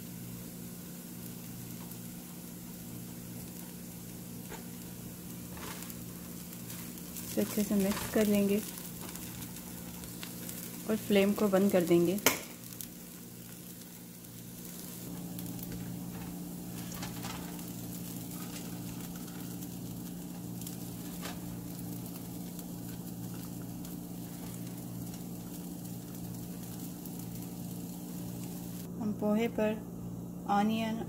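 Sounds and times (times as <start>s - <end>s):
kitchen hum: 0.0s - 31.0s.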